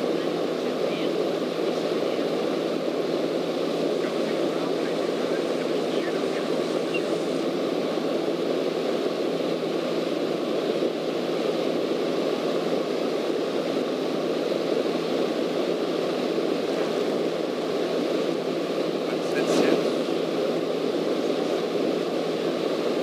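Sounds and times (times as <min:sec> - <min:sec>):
airplane engine drone: 0:00.0 - 0:23.0.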